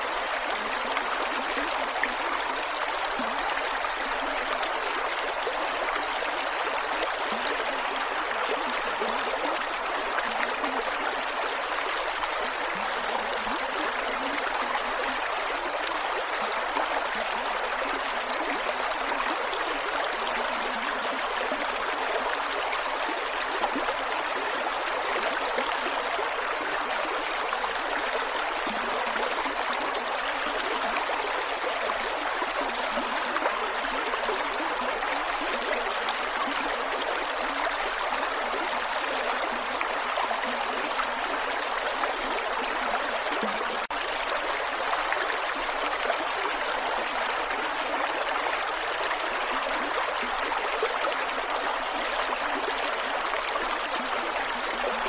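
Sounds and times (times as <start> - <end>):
creek water gurgling over rocks: 0.0 - 55.0.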